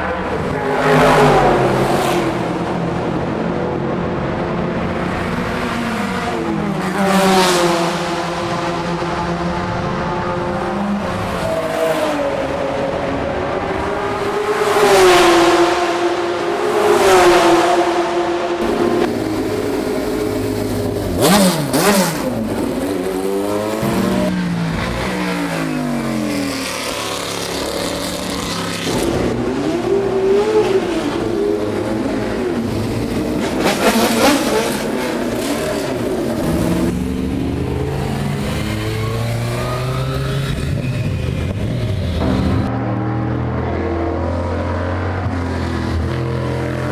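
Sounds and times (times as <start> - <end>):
race cars passing at speed: 0.0 - 46.9.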